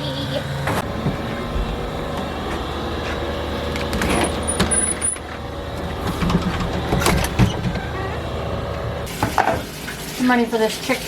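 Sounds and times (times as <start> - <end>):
steady machine hum: 0.0 - 9.5.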